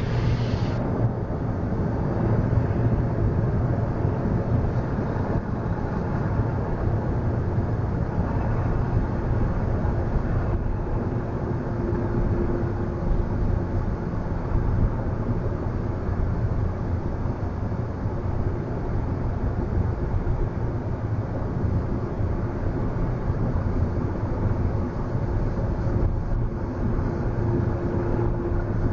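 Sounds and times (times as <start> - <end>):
car wash machinery: 0.0 - 28.9
faint hum: 0.0 - 28.9.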